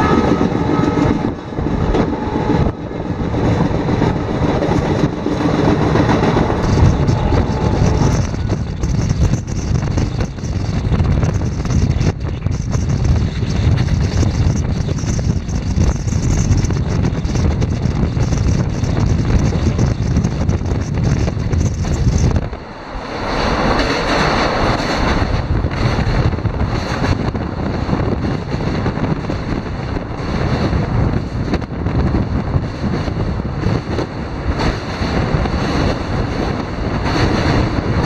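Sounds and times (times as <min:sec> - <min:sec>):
moving train running noise: 0:00.0 - 0:38.0
train crossing steel bridge: 0:00.0 - 0:38.0
wind buffeting microphone: 0:00.0 - 0:38.0.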